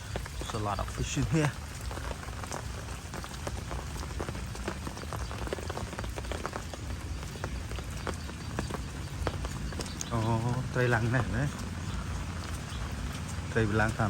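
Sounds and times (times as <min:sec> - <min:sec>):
rain drops ticking: 0:00.0 - 0:14.0
rain hiss: 0:00.0 - 0:14.0.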